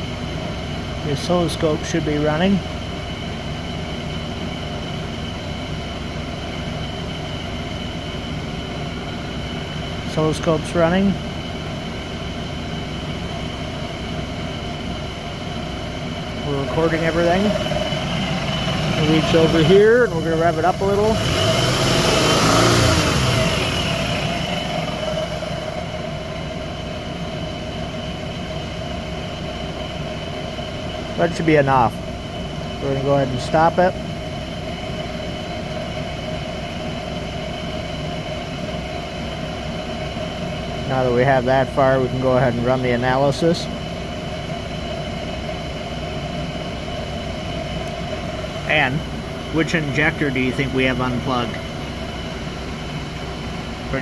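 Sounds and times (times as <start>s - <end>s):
car engine idling with misfire: 0.0s - 54.0s.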